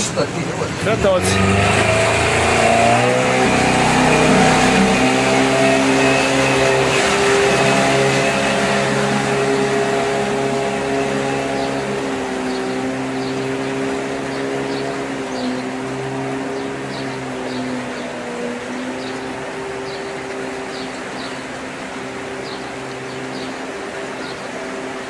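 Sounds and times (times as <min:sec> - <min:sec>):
motor engine running: 0:00.0 - 0:25.0.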